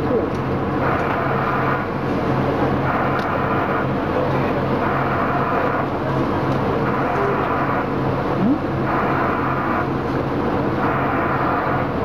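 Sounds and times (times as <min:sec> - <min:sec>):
diesel engine humming: 0:00.0 - 0:12.0
train rolling rumble: 0:00.0 - 0:12.0.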